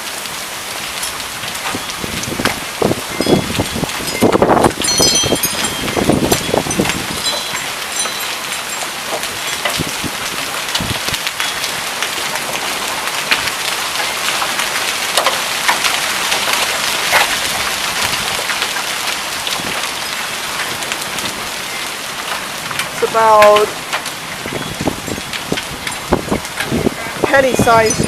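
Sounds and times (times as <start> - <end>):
hailstones clicking: 0.0 - 28.0
heavy rain: 0.0 - 28.0.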